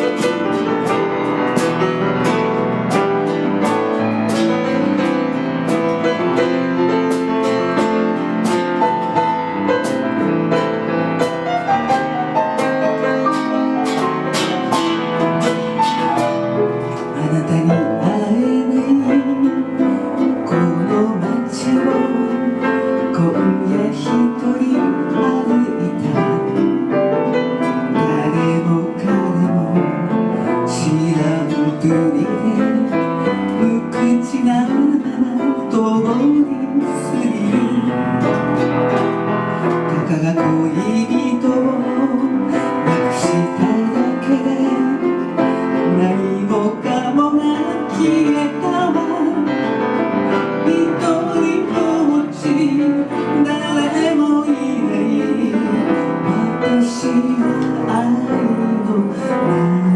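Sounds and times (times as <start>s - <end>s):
person singing: 0.0s - 59.9s
piano and guitar ballad: 0.0s - 59.9s.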